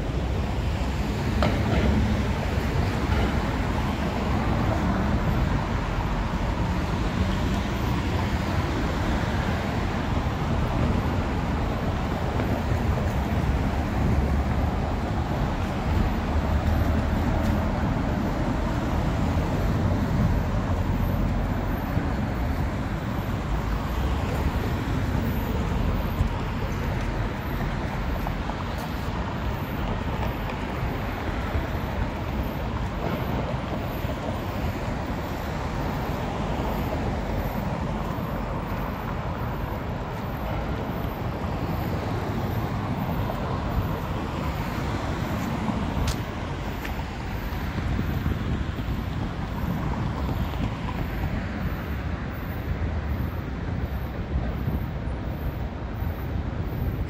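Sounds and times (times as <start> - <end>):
city traffic passing: 0.0 - 57.0.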